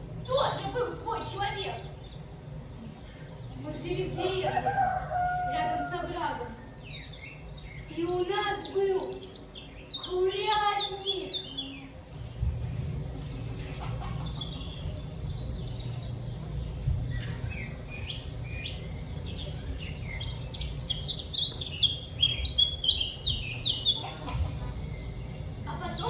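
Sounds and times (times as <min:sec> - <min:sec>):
steady low rumble: 0:00.0 - 0:08.3, 0:11.4 - 0:26.0
small birds chirping: 0:00.0 - 0:26.0.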